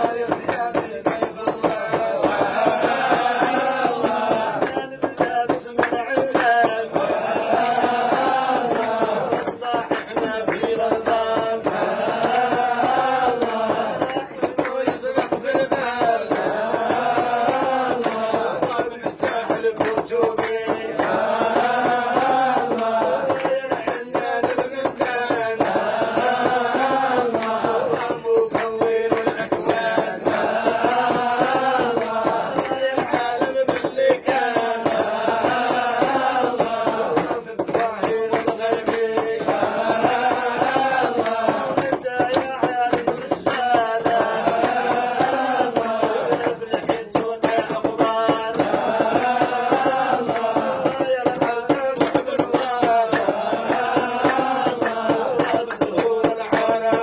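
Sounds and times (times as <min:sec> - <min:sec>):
men chanting together: 0:00.0 - 0:57.0
sharp percussive strikes: 0:00.0 - 0:57.0.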